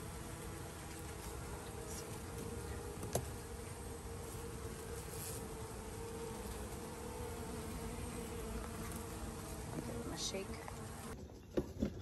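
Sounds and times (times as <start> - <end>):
bee swarm buzzing: 0.0 - 11.2.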